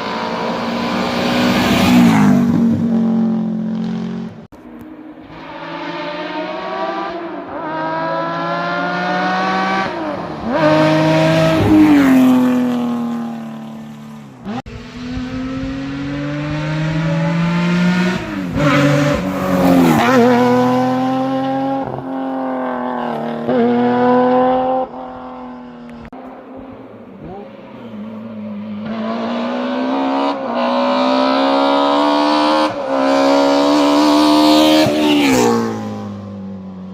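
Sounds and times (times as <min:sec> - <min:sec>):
rally car engine at full throttle: 0:00.0 - 0:36.9.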